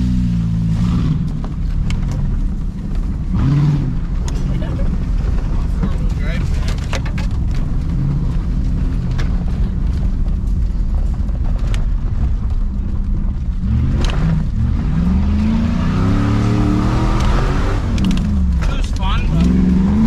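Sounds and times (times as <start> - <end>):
pickup truck engine rumbling: 0.0 - 20.0.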